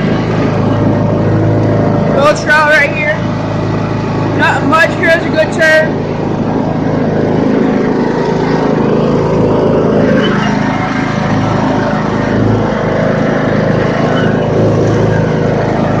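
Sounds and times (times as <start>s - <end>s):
riding lawn mower engine running: 0.0s - 16.0s.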